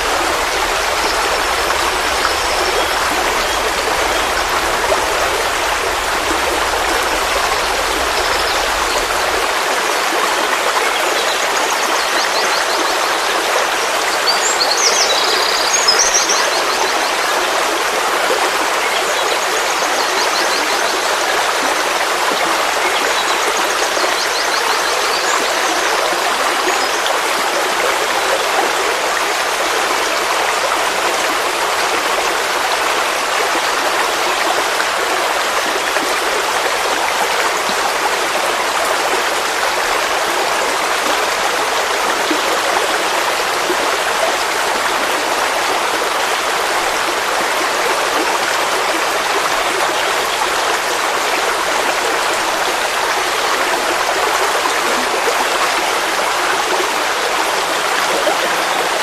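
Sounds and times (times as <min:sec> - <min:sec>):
forest stream flowing: 0:00.0 - 0:59.0.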